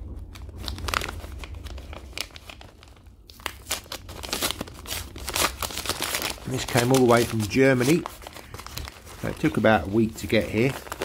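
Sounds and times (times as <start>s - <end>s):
envelope crinkling and rustling: 0.0s - 11.0s.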